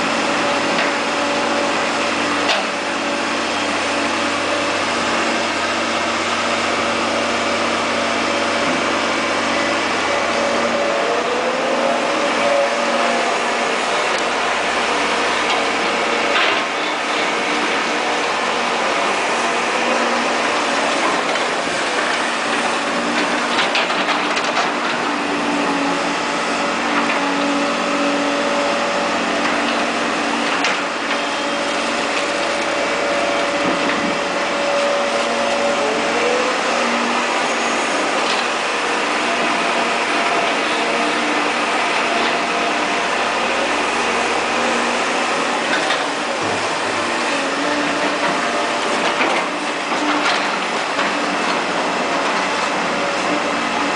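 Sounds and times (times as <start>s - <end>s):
excavator running while digging: 0.0s - 53.9s.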